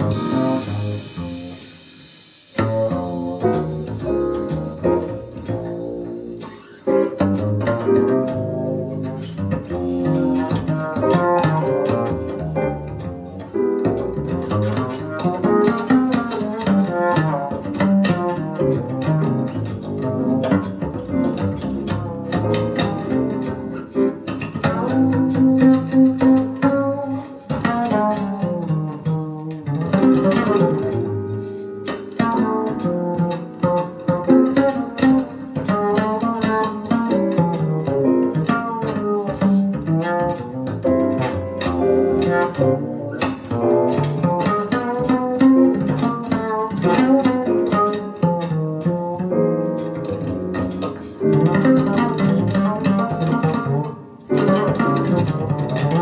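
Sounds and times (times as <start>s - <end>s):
low bass line: 0.0s - 1.9s, 2.6s - 56.0s
plucked string music: 0.0s - 56.0s.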